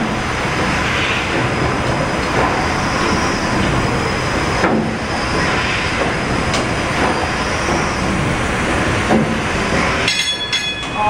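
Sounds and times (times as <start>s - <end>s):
steam engine mechanical din: 0.0s - 11.0s.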